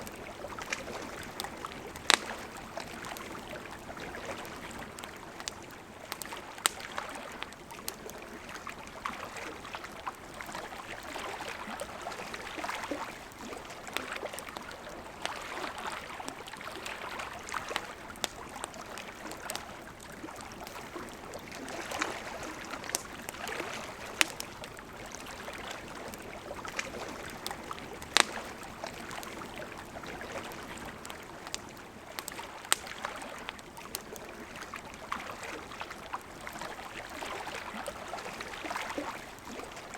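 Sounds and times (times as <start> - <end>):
campfire crackling and popping: 0.0 - 39.9
flowing river: 0.0 - 39.9.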